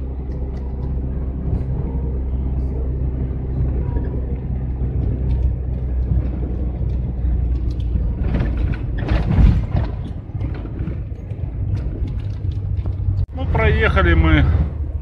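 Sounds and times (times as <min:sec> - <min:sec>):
rushing rumble: 0:00.0 - 0:15.0
van engine pulling uphill: 0:00.0 - 0:15.0.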